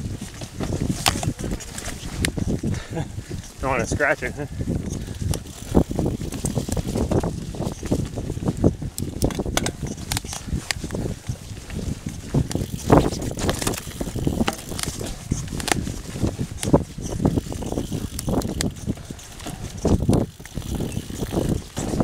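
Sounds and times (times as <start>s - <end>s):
bike rattling and knocking: 0.0s - 22.0s
bike tyres rolling over dry leaves: 0.0s - 22.0s.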